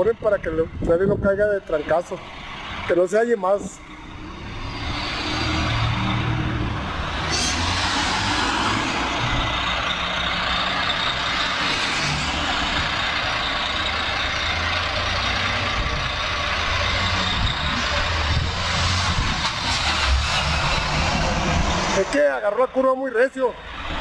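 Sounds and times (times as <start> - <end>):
highway traffic passing: 0.0 - 24.0
truck driving by: 1.7 - 24.0.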